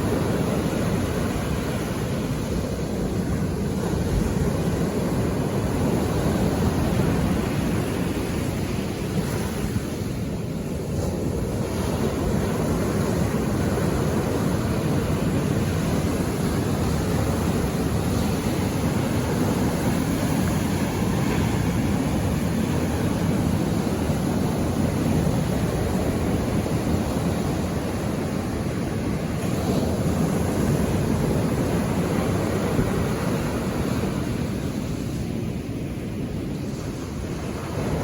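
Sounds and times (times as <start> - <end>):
ocean surf washing ashore: 0.0 - 38.0.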